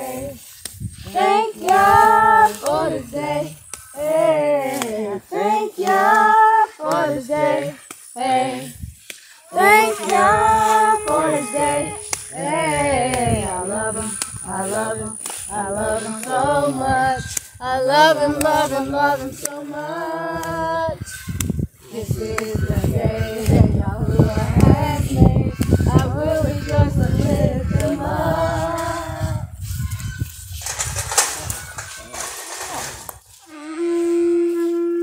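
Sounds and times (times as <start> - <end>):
voices singing: 0.0 - 35.0.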